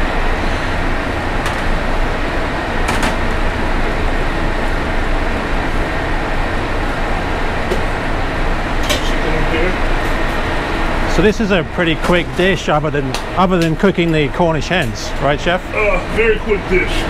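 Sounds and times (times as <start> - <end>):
ventilation fans: 0.0 - 17.0.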